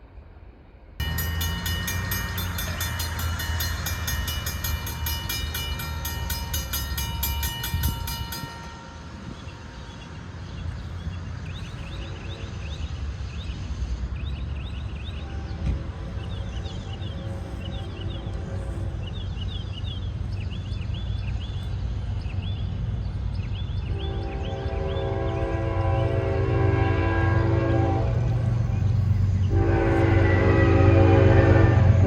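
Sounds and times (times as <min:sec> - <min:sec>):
diesel locomotive rumble: 0:01.0 - 0:32.0
rhythmic clatter of train cars: 0:01.0 - 0:32.0.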